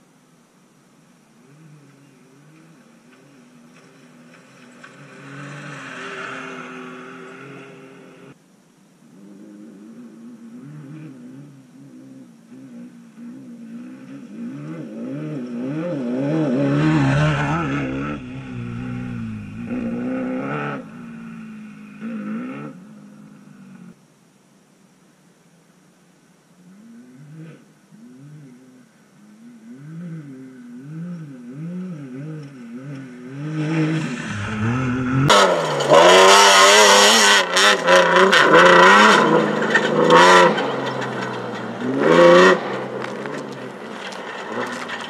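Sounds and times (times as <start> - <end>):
off-road engines passing at speed: 1.4 - 8.4, 9.2 - 24.0, 26.8 - 45.0.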